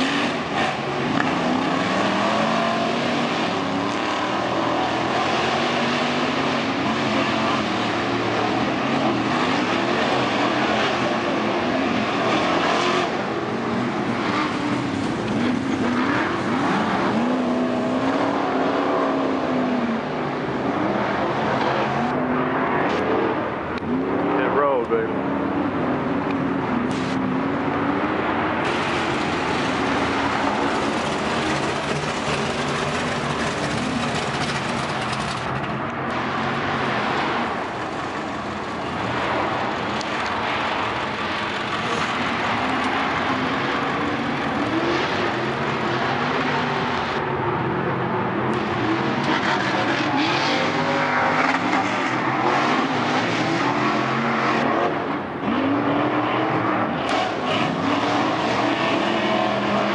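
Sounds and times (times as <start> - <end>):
truck engines revving: 0.0 - 59.9.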